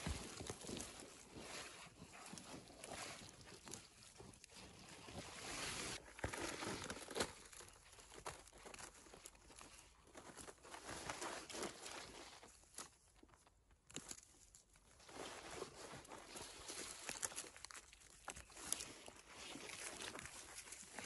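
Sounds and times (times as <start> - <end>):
hand rustling dry grass and leaves: 0.0 - 21.0.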